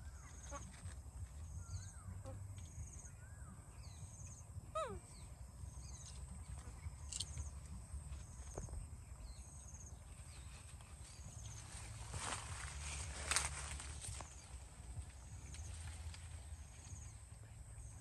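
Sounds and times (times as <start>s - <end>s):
low wind rumble: 1.0s - 18.0s.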